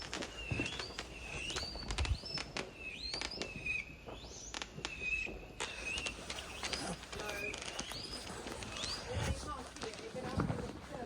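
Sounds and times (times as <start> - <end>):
firework whistles rising: 0.0 - 9.6
distant fireworks crackling pops: 0.0 - 11.0.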